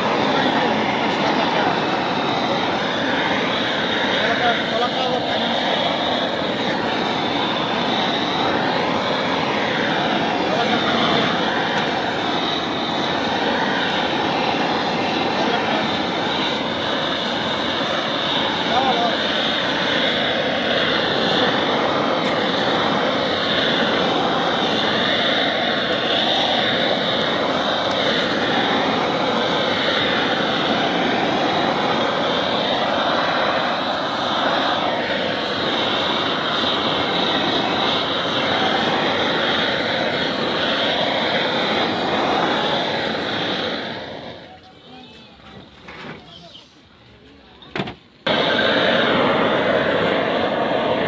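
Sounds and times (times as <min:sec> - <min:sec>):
gas blowtorch roaring hiss: 0:00.0 - 0:51.0.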